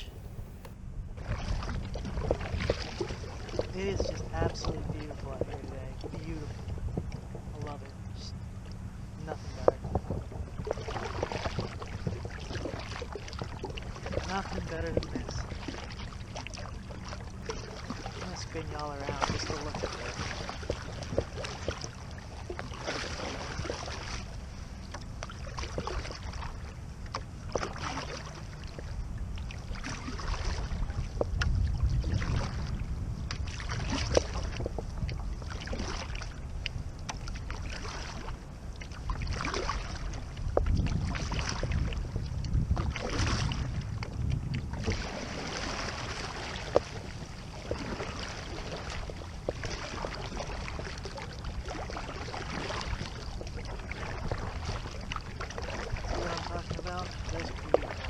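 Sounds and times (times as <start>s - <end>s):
kayak paddle splashing water: 0.0s - 8.3s, 9.2s - 58.0s
wind rumbling on microphone: 0.0s - 58.0s.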